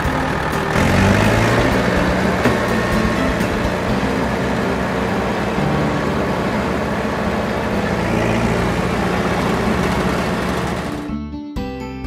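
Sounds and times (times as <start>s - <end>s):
bulldozer engine running: 0.0s - 11.2s.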